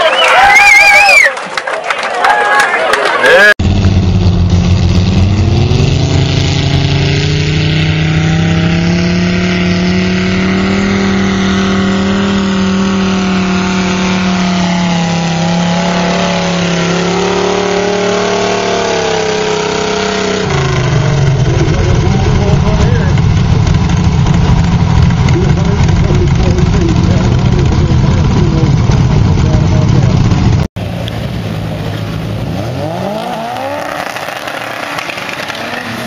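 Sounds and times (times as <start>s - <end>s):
pulling tractor engines at full throttle: 2.8s - 36.0s.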